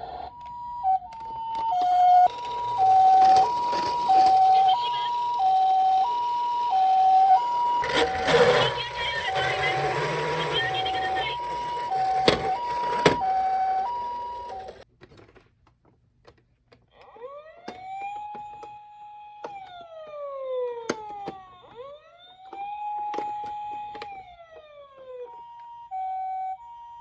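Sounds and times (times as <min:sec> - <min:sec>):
toy police car wail siren: 0:00.0 - 0:14.8, 0:16.9 - 0:27.0
toy ambulance hi-lo siren: 0:00.0 - 0:14.9, 0:16.9 - 0:27.0.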